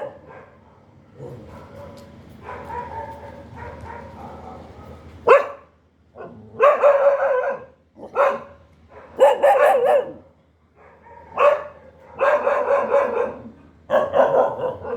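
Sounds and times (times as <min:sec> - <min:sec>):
dog barking: 0:00.0 - 0:14.9.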